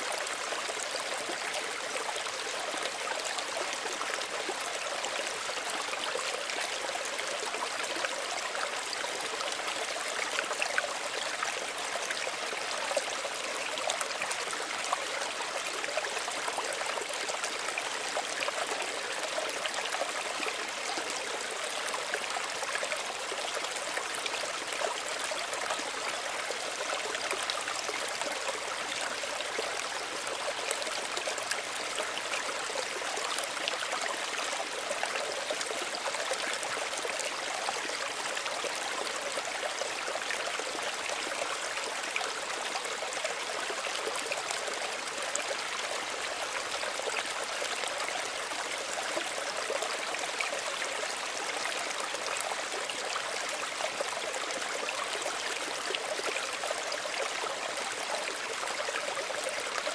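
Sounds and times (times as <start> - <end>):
stream babbling: 0.0 - 59.9
water splashes and trickles: 0.0 - 59.9.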